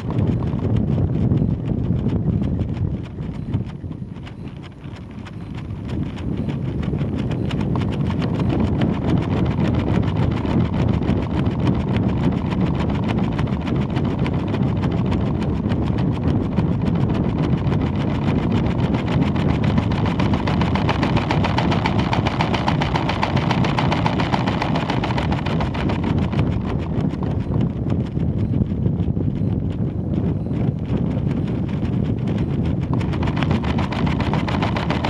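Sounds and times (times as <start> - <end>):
air rushing over microphone: 0.0 - 35.0
fast rattling clatter: 0.0 - 35.0.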